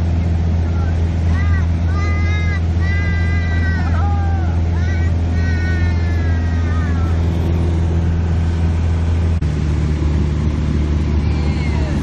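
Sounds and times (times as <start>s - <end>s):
aircraft engine and propeller drone: 0.0s - 12.0s.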